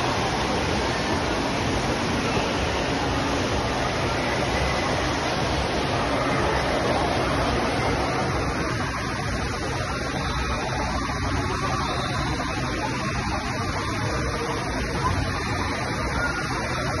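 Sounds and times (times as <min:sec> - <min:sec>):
rushing water in a wave pool: 0:00.0 - 0:17.0.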